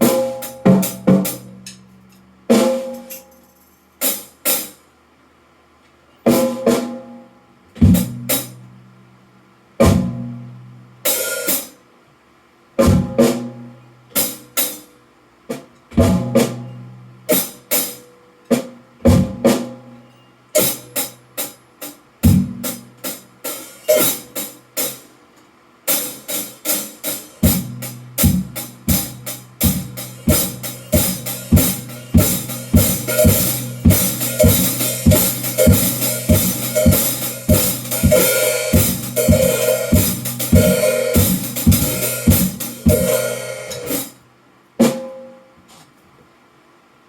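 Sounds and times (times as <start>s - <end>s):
drum kit playing: 0.0s - 3.4s, 4.0s - 4.8s, 6.3s - 7.2s, 7.8s - 8.6s, 9.8s - 11.8s, 12.8s - 20.0s, 20.6s - 25.2s, 25.8s - 44.2s, 44.8s - 45.4s.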